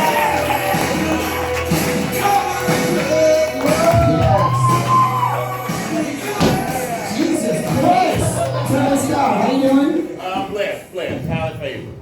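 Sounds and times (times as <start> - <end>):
singing over bass line music: 0.0 - 9.9.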